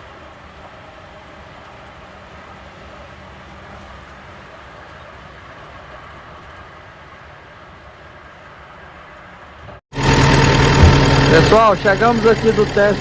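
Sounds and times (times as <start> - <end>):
pickup engine rumble: 0.0 - 13.0
road noise: 0.0 - 13.0.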